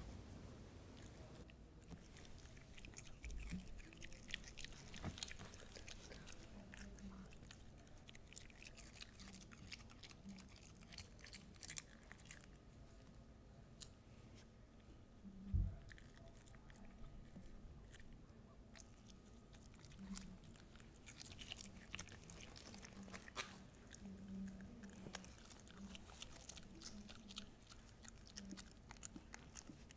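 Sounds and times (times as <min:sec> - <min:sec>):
dog crunching cabbage: 0:01.0 - 0:13.1, 0:15.8 - 0:29.9.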